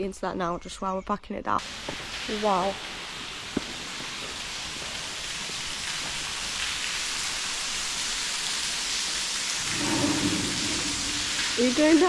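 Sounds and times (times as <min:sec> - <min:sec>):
steady rain: 0:01.6 - 0:12.0.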